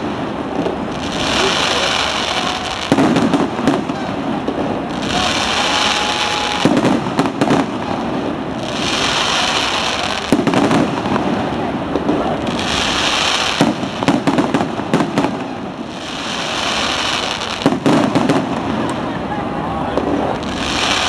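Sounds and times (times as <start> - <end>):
fireworks bangs and crackles: 0.0 - 21.0
high hissing crackle: 0.0 - 21.0.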